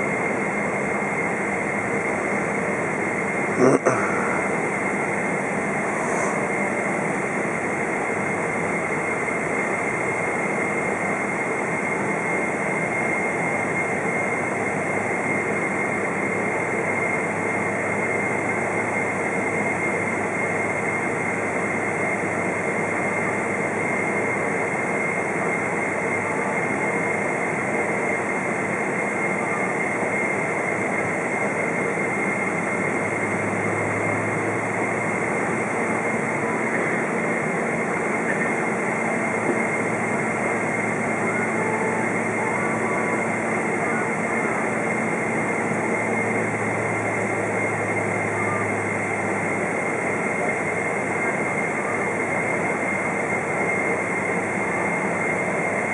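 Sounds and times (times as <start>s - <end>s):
jet engines rushing with high whine: 0.0s - 55.9s.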